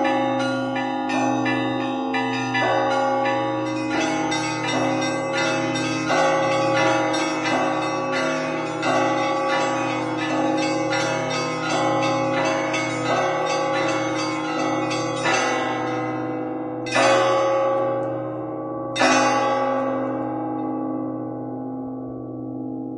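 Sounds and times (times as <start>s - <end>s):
hum of large bells: 0.0s - 22.9s
small church bells ringing: 0.0s - 22.9s.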